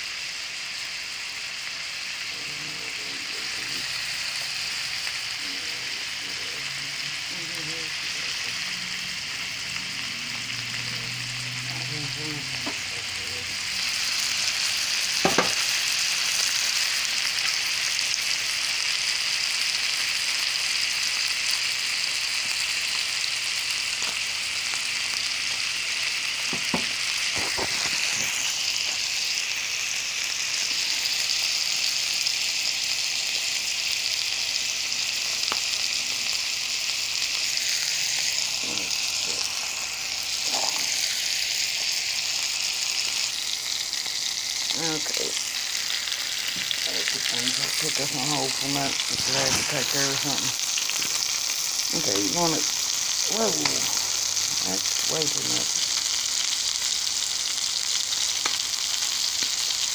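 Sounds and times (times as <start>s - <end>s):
chicken sizzling in skillet: 0.0s - 59.9s.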